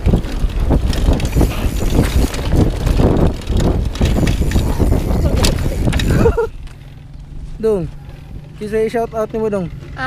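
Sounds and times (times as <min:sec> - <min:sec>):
bike chain and frame rattling: 0:00.0 - 0:10.0
bike tyres rumbling on dirt: 0:00.0 - 0:10.0
wind buffeting microphone: 0:00.0 - 0:10.0.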